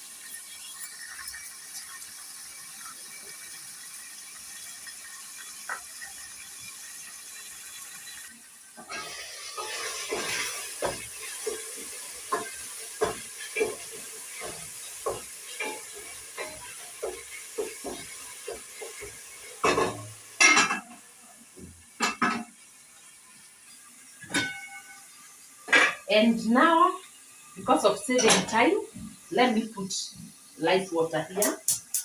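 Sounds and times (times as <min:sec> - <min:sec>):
food hissing in a pot: 0:00.0 - 0:32.0.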